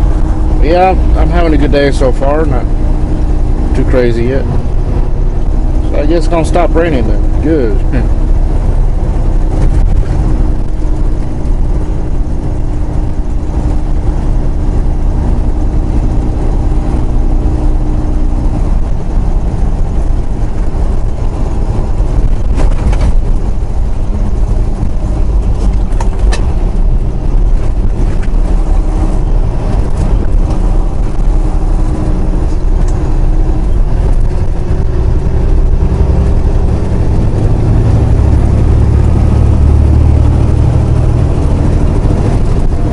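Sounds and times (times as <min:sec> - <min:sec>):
truck diesel engine and road rumble: 0:00.0 - 0:42.9.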